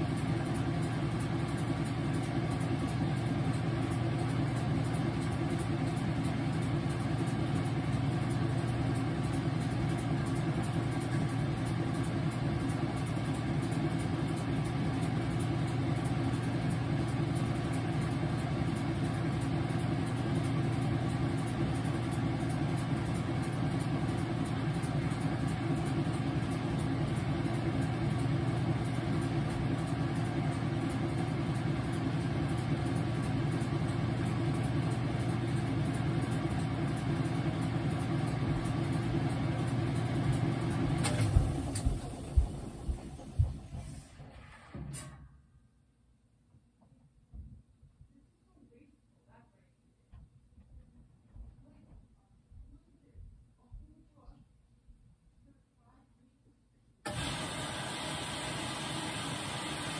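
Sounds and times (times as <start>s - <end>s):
washing machine humming: 0.0s - 45.2s, 57.0s - 59.9s.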